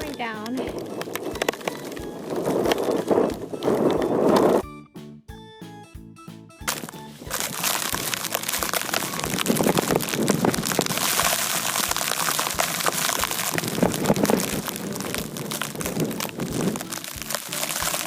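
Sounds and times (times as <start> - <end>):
low gusty thumps: 0.0 - 16.9.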